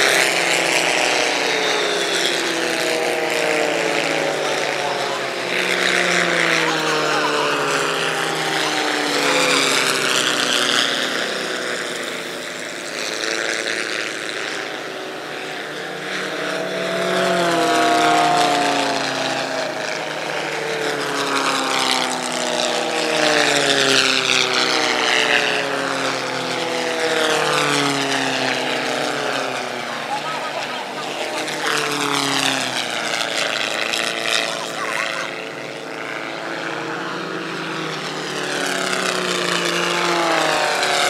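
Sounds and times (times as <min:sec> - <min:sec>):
propeller planes flying past: 0:00.0 - 0:41.0.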